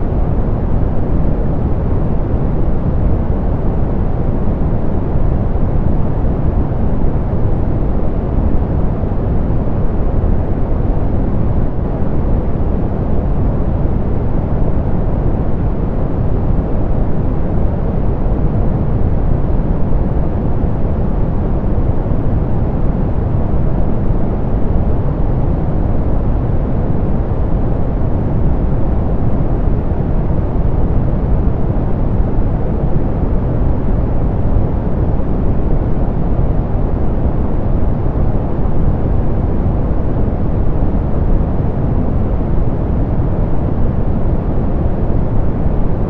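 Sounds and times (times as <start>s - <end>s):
low pink noise hiss: 0.0s - 46.0s.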